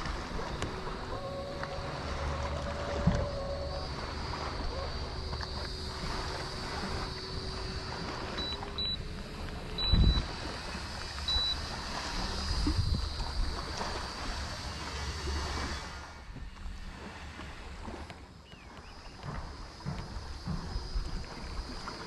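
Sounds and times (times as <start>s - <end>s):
waves lapping against boat hull: 0.0s - 22.0s
wind on microphone: 0.0s - 22.0s.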